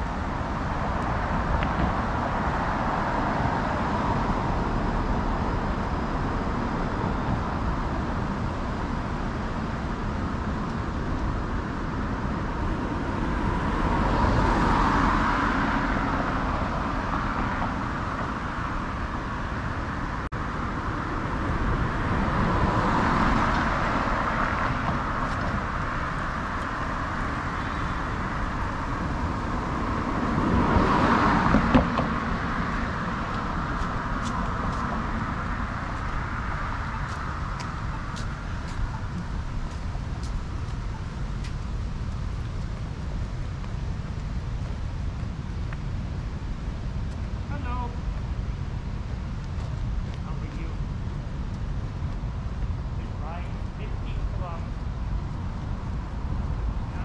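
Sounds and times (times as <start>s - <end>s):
hum of traffic: 0.0s - 57.0s
vehicles passing close by: 0.0s - 57.0s.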